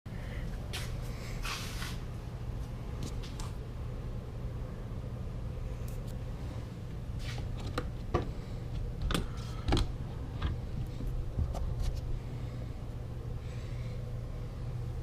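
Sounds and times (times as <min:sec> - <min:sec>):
low hum: 0:00.1 - 0:15.0.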